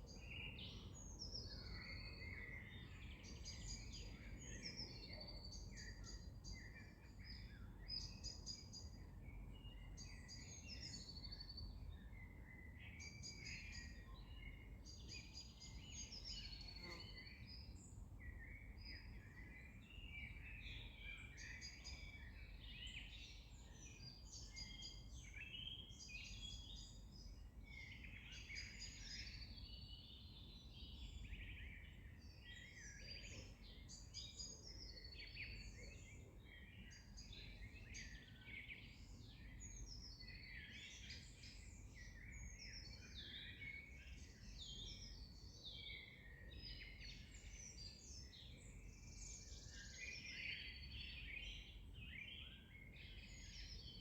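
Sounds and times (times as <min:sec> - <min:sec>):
many small birds singing: 0:00.0 - 0:54.0.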